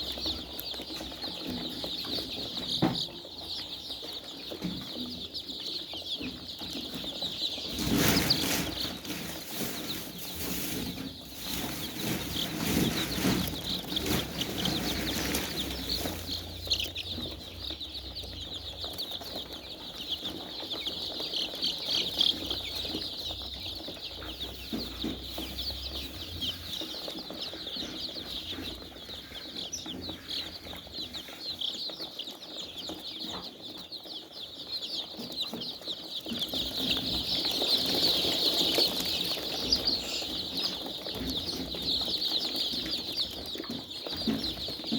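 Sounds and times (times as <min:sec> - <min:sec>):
chickens peeping and clucking: 0:00.0 - 0:44.9.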